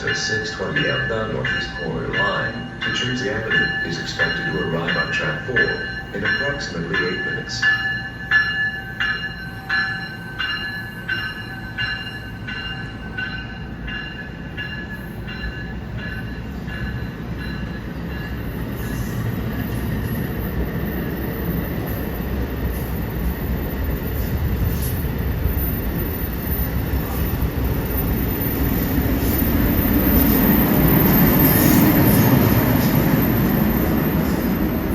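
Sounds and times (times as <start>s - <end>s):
train rumble: 0.0s - 34.9s.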